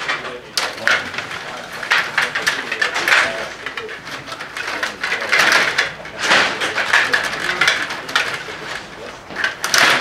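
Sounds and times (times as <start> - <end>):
table hockey rods clicking and rattling: 0.0 - 10.0.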